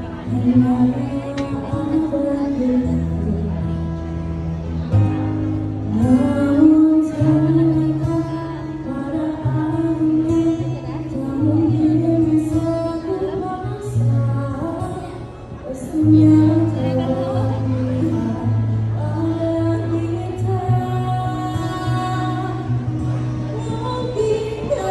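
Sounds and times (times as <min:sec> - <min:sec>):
woman singing into a microphone: 0:00.0 - 0:04.2, 0:05.9 - 0:24.9
acoustic guitar: 0:00.0 - 0:24.9.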